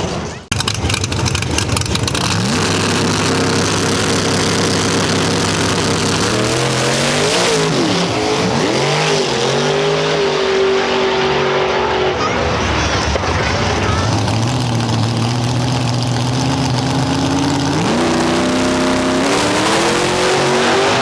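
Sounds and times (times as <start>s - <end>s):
racing car engine accelerating: 0.5s - 21.0s.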